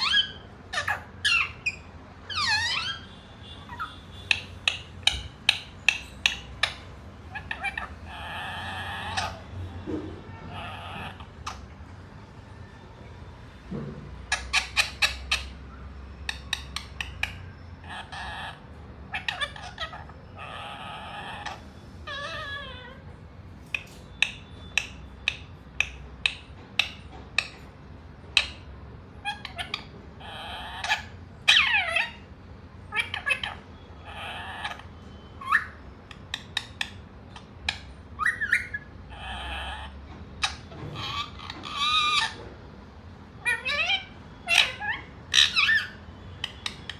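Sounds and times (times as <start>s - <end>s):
parrot chirping and squawking: 0.0s - 12.4s, 14.1s - 46.9s.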